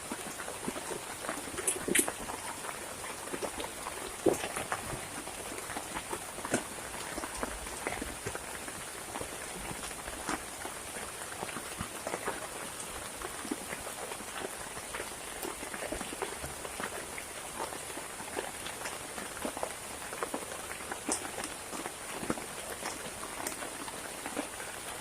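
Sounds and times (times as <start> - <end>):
raindrops striking close by: 0.0 - 25.0
steady rain falling: 0.0 - 25.0.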